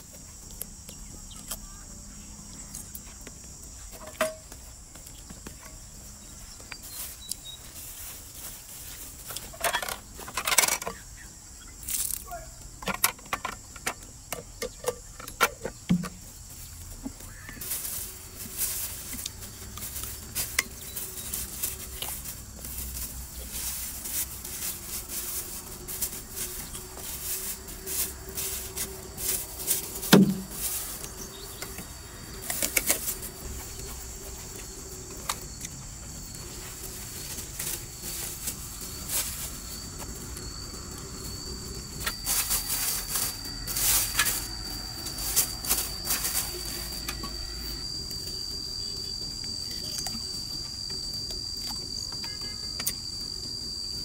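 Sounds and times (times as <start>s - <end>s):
cricket trill: 0.0s - 54.0s.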